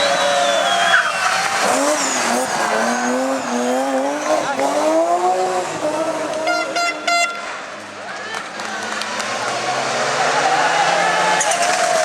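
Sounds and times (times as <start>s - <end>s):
rally car engine revving: 0.7s - 8.0s, 8.6s - 12.0s.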